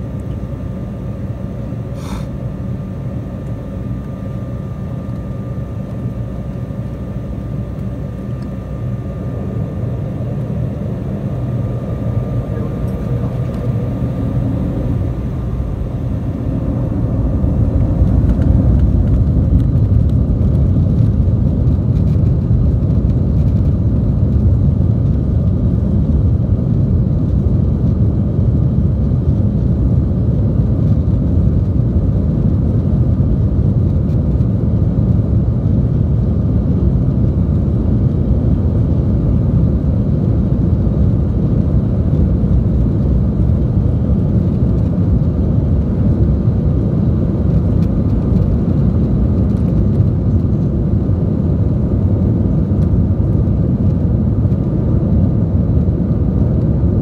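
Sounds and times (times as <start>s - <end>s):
jet engines at high thrust: 0.0s - 57.0s
wheels rumbling on runway: 5.1s - 57.0s.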